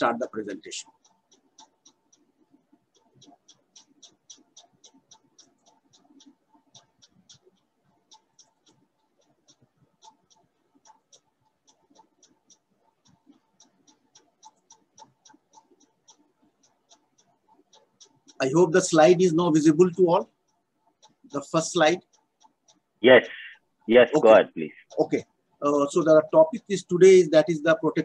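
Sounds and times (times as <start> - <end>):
faint rapid ticking: 0.0 - 28.0.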